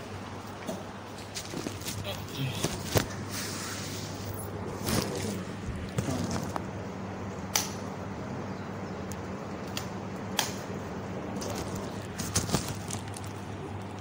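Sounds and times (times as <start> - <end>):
low electrical hum and hiss: 0.0 - 14.0.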